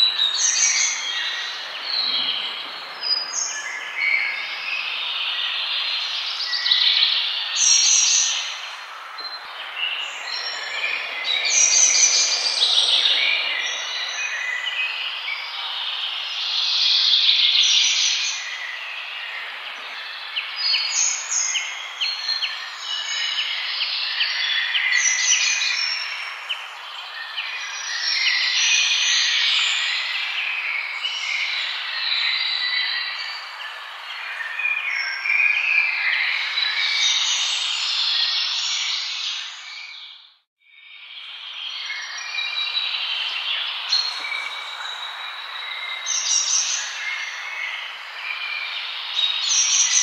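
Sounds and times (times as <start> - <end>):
songbirds singing and chirping: 0.0 - 50.0.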